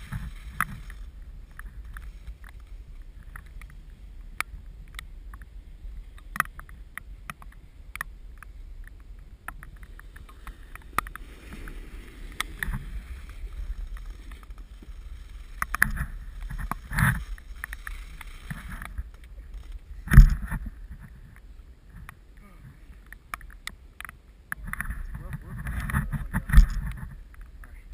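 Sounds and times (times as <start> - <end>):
scattered clicks and ticks: 0.0 - 5.5, 6.1 - 27.8
skis sliding over wet snow: 0.0 - 23.4.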